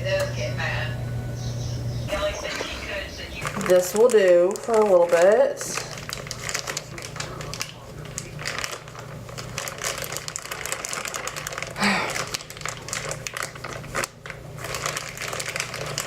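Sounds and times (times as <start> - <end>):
plastic piping bag crinkling: 2.1 - 16.0.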